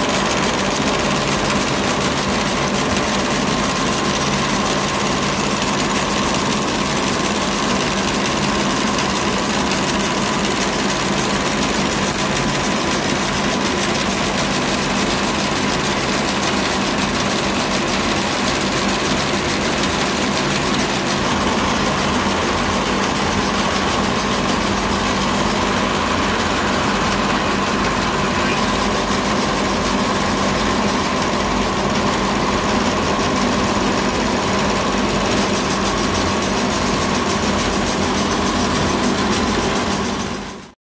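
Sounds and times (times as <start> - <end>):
machinery running with whine: 0.0 - 40.7.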